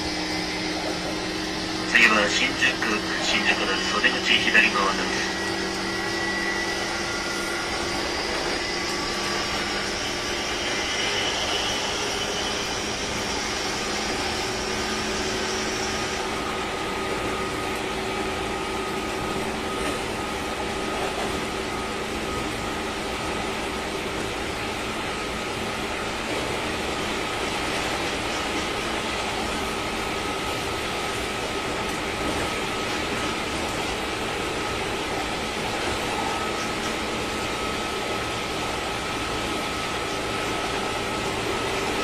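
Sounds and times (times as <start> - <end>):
high whine of traction motor: 0.0 - 42.0
train running rumble: 0.0 - 42.0.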